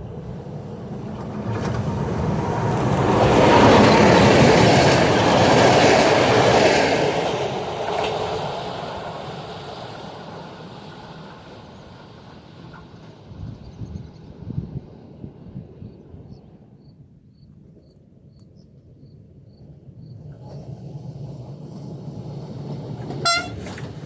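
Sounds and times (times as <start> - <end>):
train wheels clattering over rails: 0.0 - 16.2, 20.2 - 24.0.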